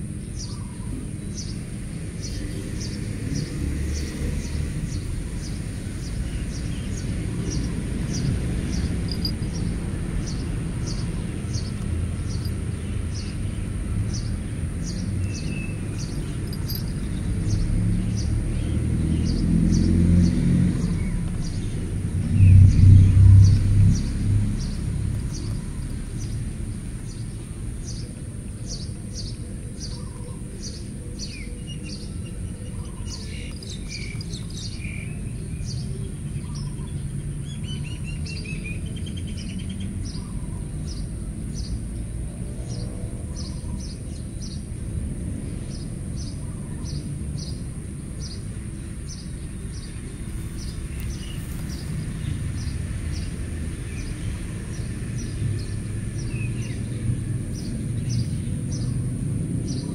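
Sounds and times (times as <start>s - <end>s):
low outdoor rumble: 0.0s - 59.9s
bird chirping: 0.2s - 41.8s, 45.6s - 59.0s.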